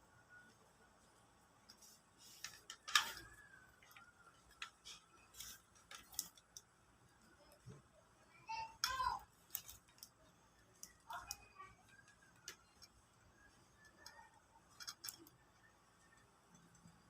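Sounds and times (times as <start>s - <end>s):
small objects clicking: 1.7s - 7.8s, 8.8s - 17.0s.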